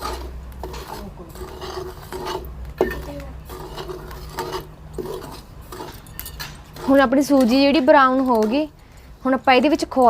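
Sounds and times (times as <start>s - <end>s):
metal scraper scraping a pan: 0.0s - 8.6s.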